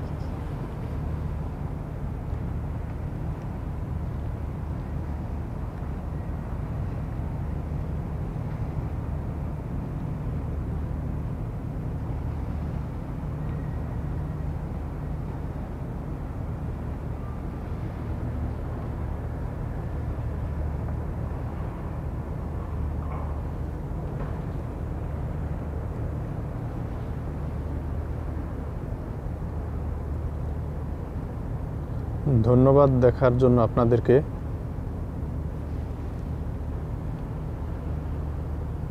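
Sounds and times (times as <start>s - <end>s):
low harbour rumble: 0.0s - 38.9s.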